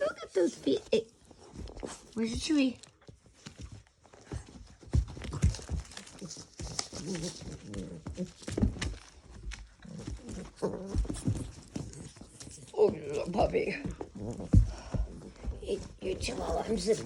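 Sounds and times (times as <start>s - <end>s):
dogs scuffling on floor: 0.2s - 17.0s.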